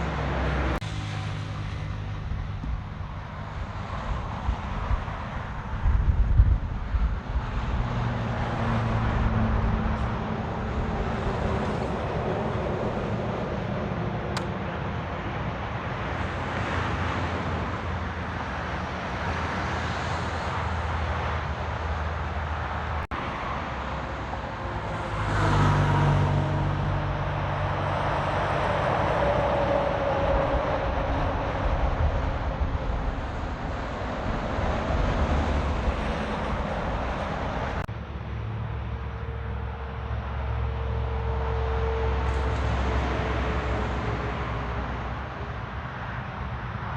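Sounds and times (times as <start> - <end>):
loud vehicle engine passing: 0.0 - 46.5
road traffic passing: 0.0 - 46.9.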